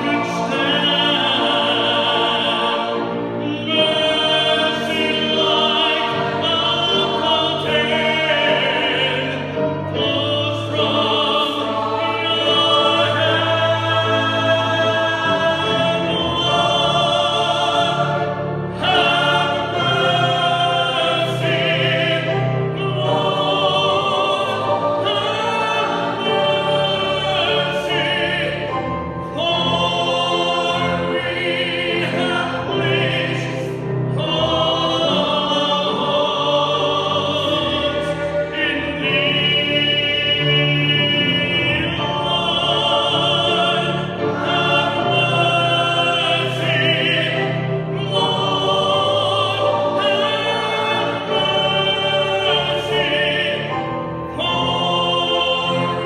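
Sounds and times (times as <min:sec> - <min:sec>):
chorus singing: 0:00.0 - 0:56.0.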